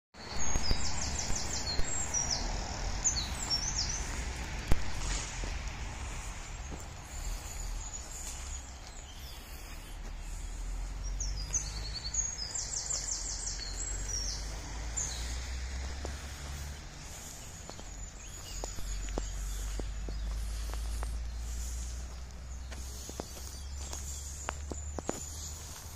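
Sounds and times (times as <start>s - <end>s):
small birds singing and chirping: 0.2s - 25.9s
steady low rumble: 0.3s - 25.9s
footsteps on forest floor: 0.4s - 25.9s.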